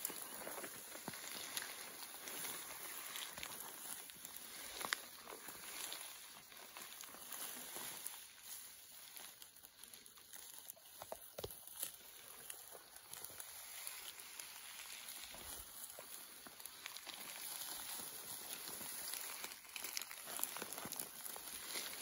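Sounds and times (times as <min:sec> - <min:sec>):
footsteps through dry grass: 0:00.0 - 0:22.0.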